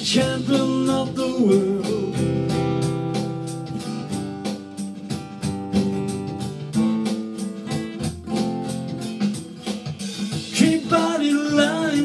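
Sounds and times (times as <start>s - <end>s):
rock guitar strumming: 0.0s - 12.0s.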